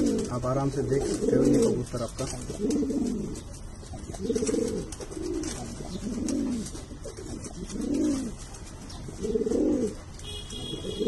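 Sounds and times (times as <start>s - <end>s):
pigeon cooing: 0.0s - 11.0s.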